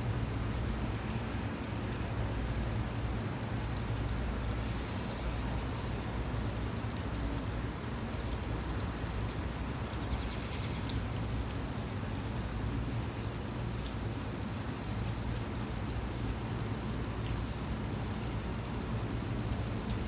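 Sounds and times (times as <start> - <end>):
low rumble of wind: 0.0 - 20.0
rain falling: 0.0 - 20.0.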